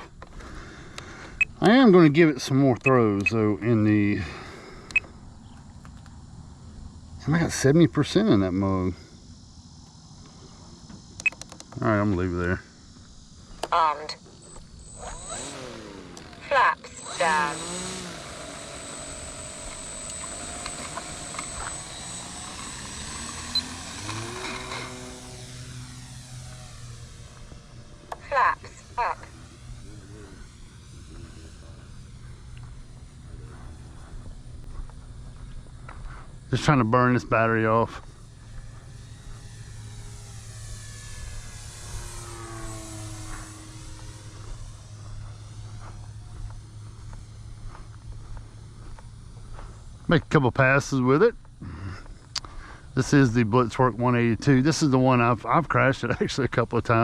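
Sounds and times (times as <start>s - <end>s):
model airplane motor and propeller: 0.0s - 57.0s.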